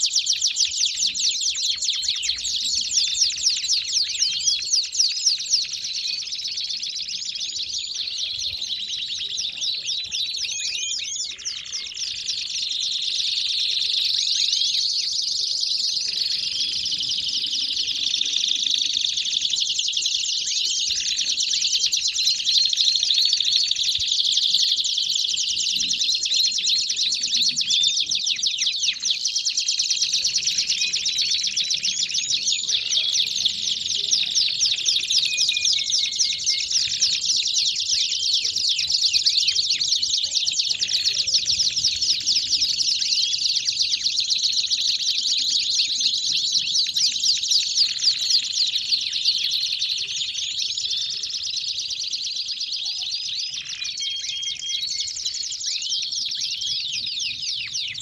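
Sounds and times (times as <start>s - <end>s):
canaries trilling and chirping: 0.0s - 58.0s.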